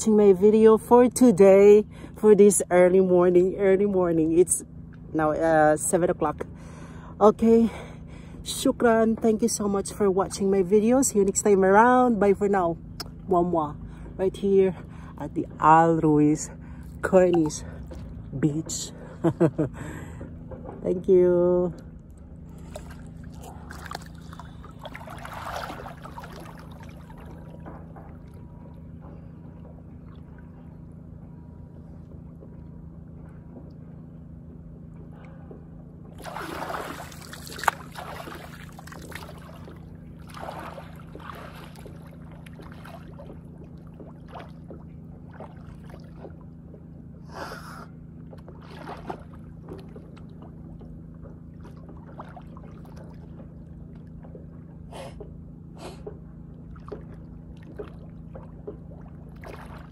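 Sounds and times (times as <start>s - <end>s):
steady low hum: 0.0s - 59.9s
water splashing and sloshing: 0.0s - 59.9s.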